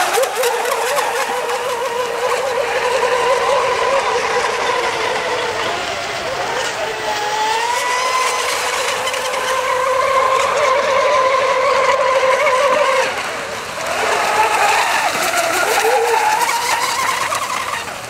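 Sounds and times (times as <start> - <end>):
racing boat motors whining: 0.0 - 18.0.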